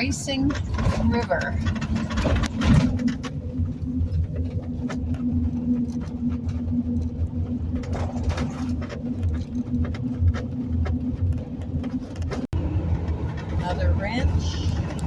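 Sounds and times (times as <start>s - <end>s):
road and engine hum in cabin: 0.0s - 15.0s.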